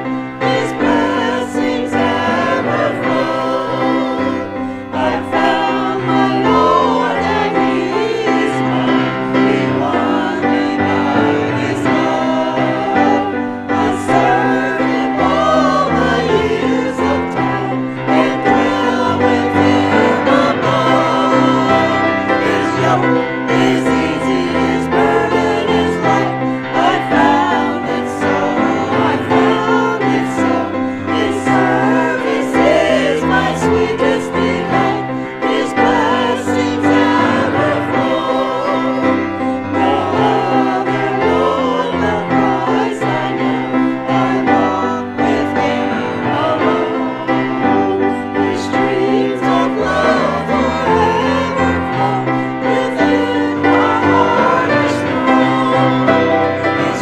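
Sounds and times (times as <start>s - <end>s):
choir singing a hymn: 0.0s - 57.0s
piano: 0.0s - 57.0s.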